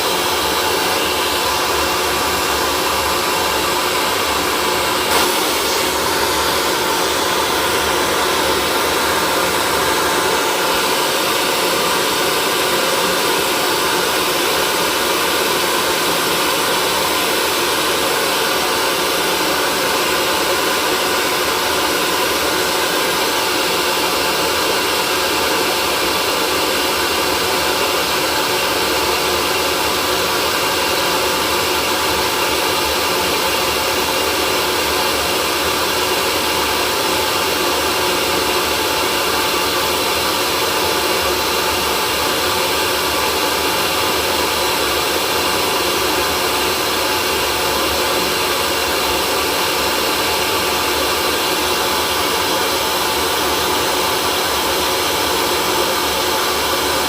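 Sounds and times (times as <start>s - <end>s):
hair dryer air rushing: 0.0s - 57.0s
hair dryer motor whine: 0.0s - 57.0s.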